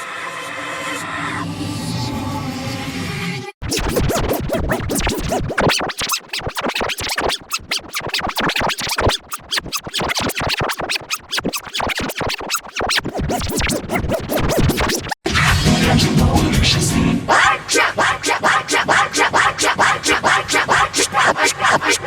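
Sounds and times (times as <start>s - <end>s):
stuttering edited music: 3.6s - 22.0s.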